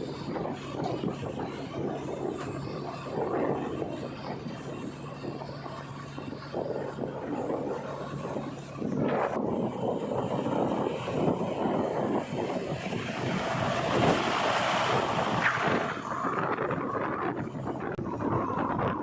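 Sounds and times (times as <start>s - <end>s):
backhoe loader rumble and clatter: 0.0s - 19.0s
wind noise on microphone: 0.0s - 19.0s.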